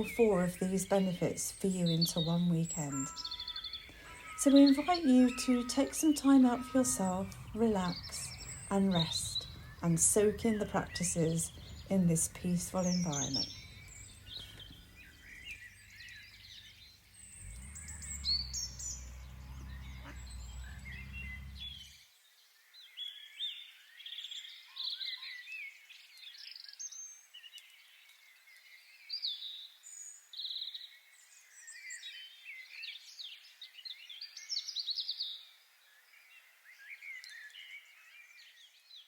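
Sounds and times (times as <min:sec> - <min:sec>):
small birds chirping and trilling: 0:00.0 - 0:39.0.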